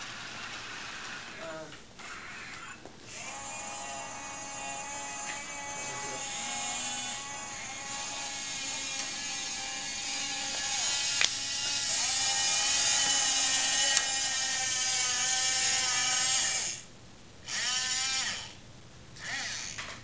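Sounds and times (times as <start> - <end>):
small electric motors whining: 1.2 - 18.6, 19.2 - 20.0.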